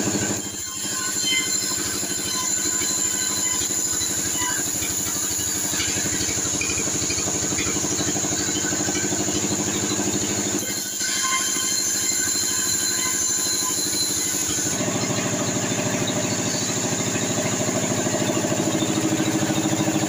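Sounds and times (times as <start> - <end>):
band saw mill hum: 0.0 - 20.0.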